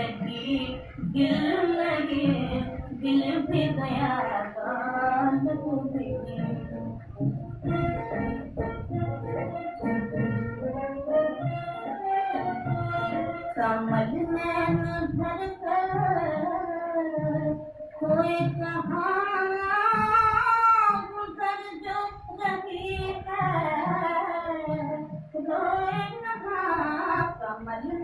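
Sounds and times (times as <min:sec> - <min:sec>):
woman singing over accompaniment: 0:00.0 - 0:07.1, 0:07.7 - 0:28.0.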